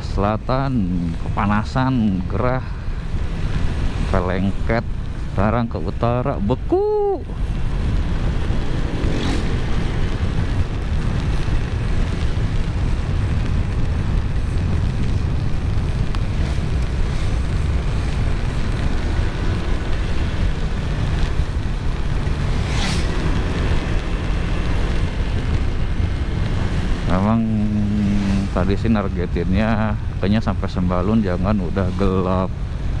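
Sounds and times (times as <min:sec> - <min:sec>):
tyres on wet road: 0:00.0 - 0:33.0
wind buffeting microphone: 0:01.2 - 0:33.0.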